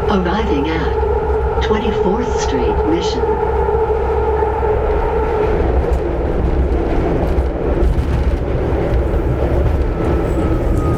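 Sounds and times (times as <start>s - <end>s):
train low rumble: 0.0s - 10.9s.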